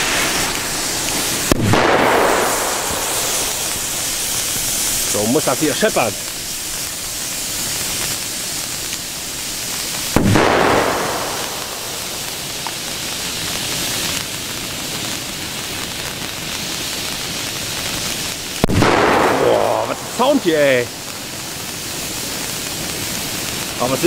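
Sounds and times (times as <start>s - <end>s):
fireworks hissing and spraying sparks: 0.0s - 24.0s
loud firecracker bangs: 0.0s - 24.0s.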